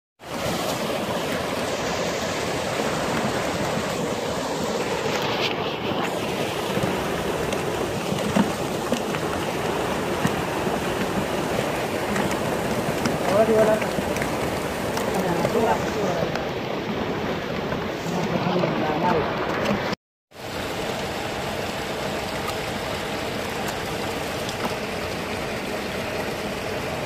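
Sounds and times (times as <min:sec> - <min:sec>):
water pouring into concrete tanks: 0:00.2 - 0:27.0.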